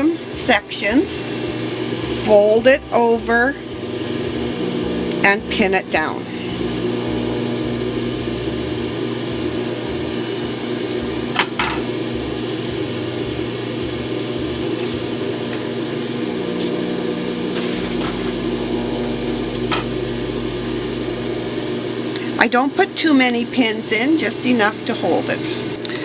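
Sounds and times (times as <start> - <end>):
electric motor hum: 0.0 - 26.0.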